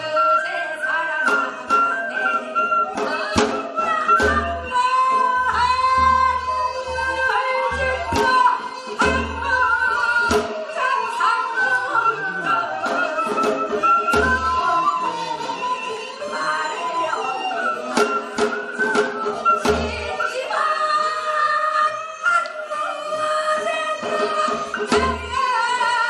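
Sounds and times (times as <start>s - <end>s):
women singing folk song: 0.0s - 26.0s.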